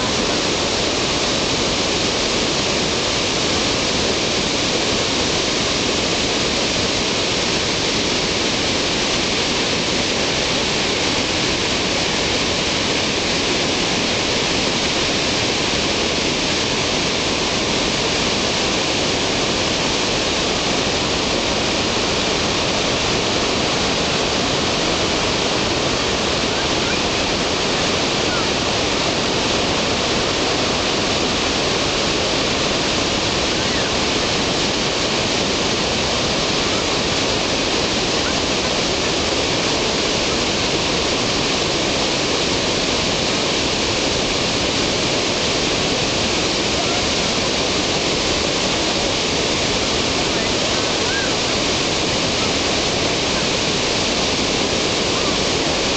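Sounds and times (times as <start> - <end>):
water rushing over rocks: 0.0 - 55.9.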